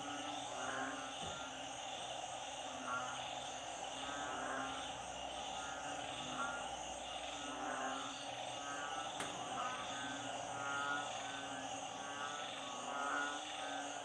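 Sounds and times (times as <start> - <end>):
frogs rasping calls: 0.0 - 14.0
frogs trilling: 0.0 - 14.0.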